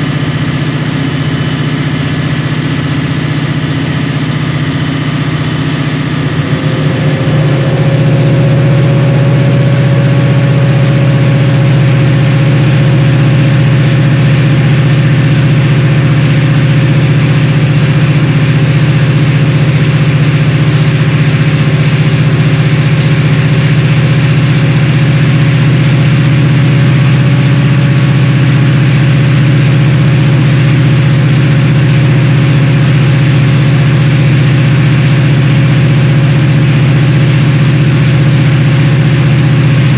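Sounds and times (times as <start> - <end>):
diesel locomotive engine running: 0.0 - 39.9
steady whine: 0.0 - 39.9.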